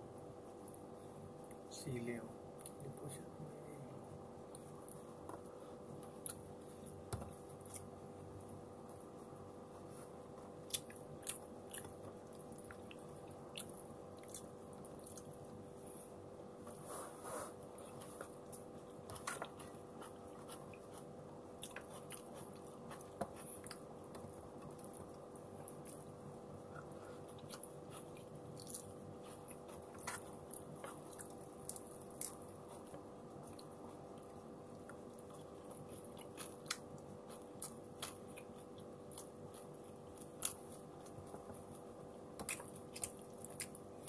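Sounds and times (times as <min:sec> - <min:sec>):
person chewing and smacking: 0:04.4 - 0:08.0, 0:10.3 - 0:15.8, 0:17.7 - 0:44.0.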